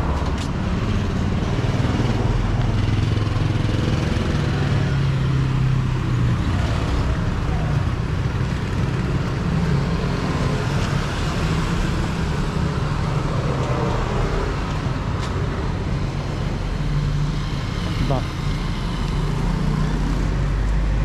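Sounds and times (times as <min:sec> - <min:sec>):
cars passing: 0:00.0 - 0:21.0
low traffic rumble: 0:00.0 - 0:21.0
motorcycles passing: 0:00.0 - 0:21.0.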